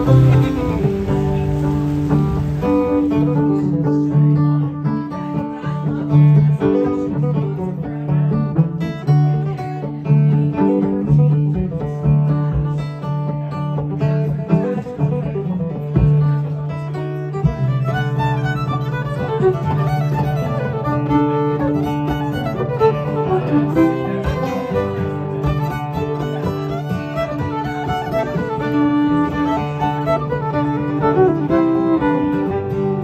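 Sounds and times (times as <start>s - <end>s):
acoustic string band music: 0.0s - 33.0s
banjo: 0.0s - 33.0s
guitar: 0.0s - 33.0s.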